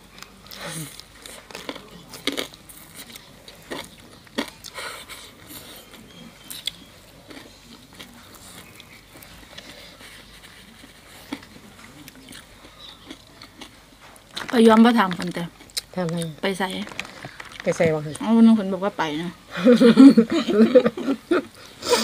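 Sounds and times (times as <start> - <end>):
people chewing crisp food: 0.0 - 18.3.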